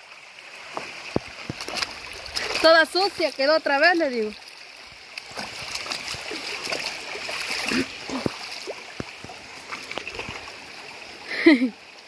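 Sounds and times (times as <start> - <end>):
small water splashes: 0.0 - 11.6
river running over rocks: 0.0 - 12.0.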